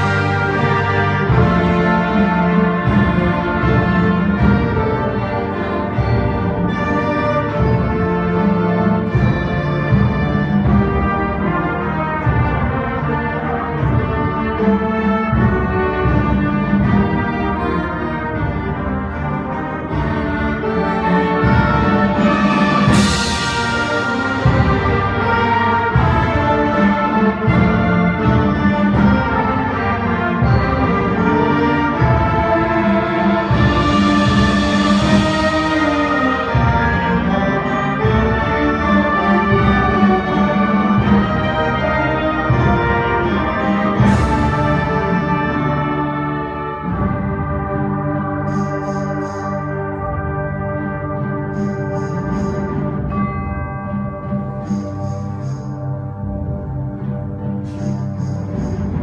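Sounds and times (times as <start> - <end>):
concert band playing: 0.0 - 59.0.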